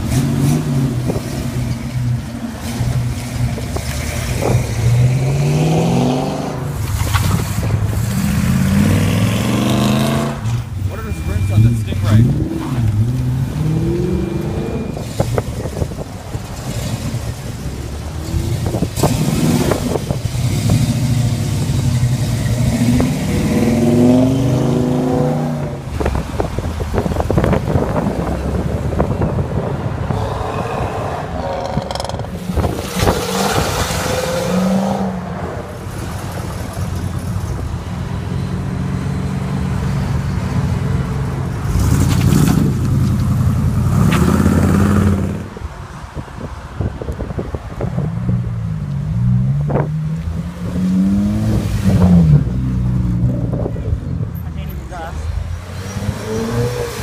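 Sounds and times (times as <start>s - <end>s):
muscle car engines revving: 0.0s - 57.0s.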